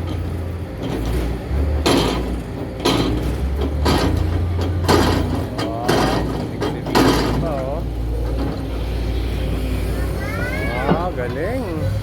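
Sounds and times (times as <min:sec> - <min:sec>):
excavator clanking and scraping: 0:00.0 - 0:12.0
excavator engine rumbling: 0:00.0 - 0:12.0.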